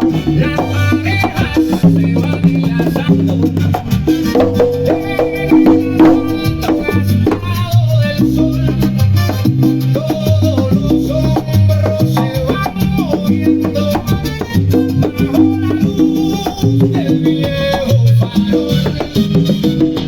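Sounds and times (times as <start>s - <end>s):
salsa music with congas: 0.0s - 20.0s.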